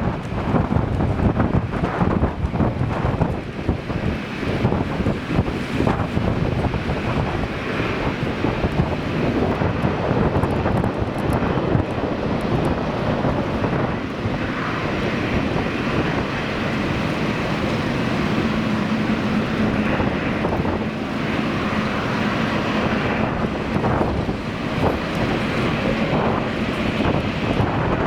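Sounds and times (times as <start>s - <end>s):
airliner engine noise: 0.0s - 28.0s
wind buffeting microphone: 0.0s - 28.0s.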